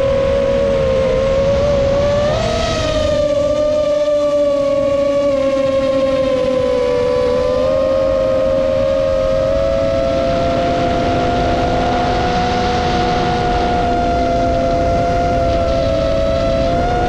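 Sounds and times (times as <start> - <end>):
constant rushing noise: 0.0 - 17.0
drone motors whining: 0.0 - 17.0.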